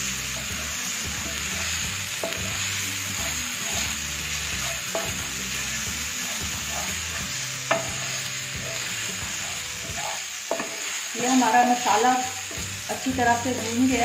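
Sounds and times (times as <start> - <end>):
paste sizzling in oil: 0.0 - 14.0
spatula tapping pan: 0.3 - 11.0, 11.6 - 13.0
wooden spatula scraping pan: 0.3 - 14.0.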